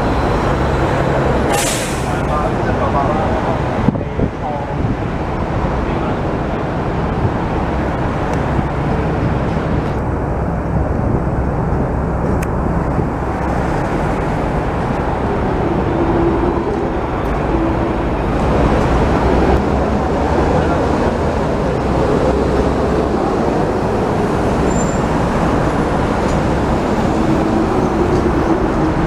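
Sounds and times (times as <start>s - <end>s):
city road traffic: 0.0s - 29.0s.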